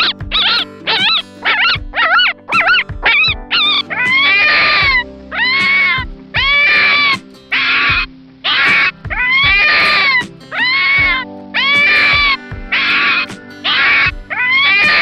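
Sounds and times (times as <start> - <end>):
fox whining calls: 0.0 - 15.0.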